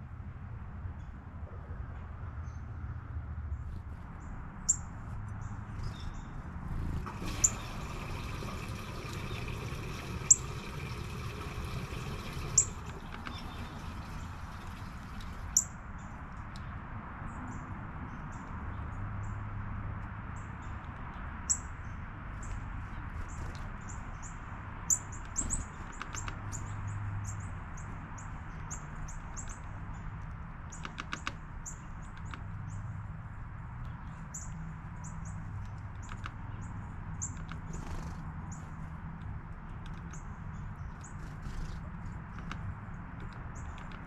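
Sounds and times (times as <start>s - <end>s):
small birds chirping: 3.5s - 19.5s, 20.3s - 44.0s.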